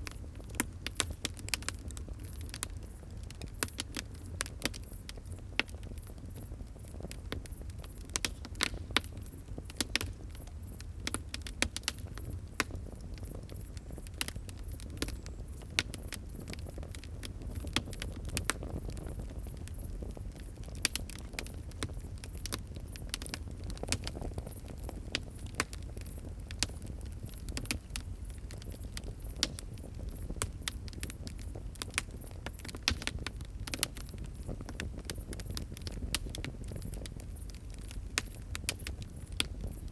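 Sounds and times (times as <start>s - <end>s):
low rumble of burning: 0.0s - 39.9s
wood fire crackling: 0.0s - 39.9s.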